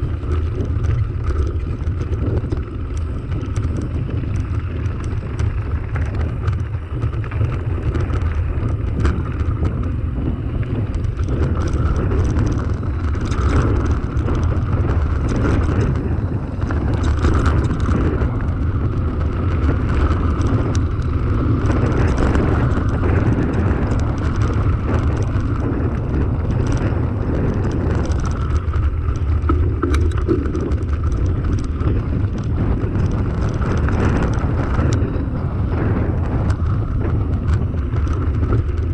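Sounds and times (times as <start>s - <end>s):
bike knocks and rattles: 0.0s - 38.9s
tyres crunching on loose stones: 0.0s - 38.9s
wind rumble on microphone: 0.0s - 38.9s.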